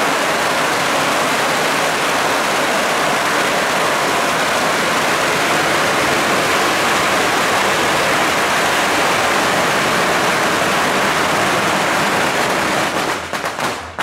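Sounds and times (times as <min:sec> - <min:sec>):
firecrackers popping: 0:00.0 - 0:14.0.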